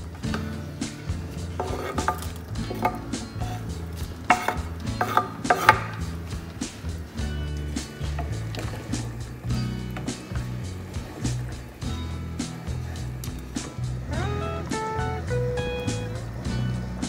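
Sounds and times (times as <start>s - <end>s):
background music with bass line: 0.0s - 17.0s
wooden spatula knocking and scraping: 0.2s - 14.0s.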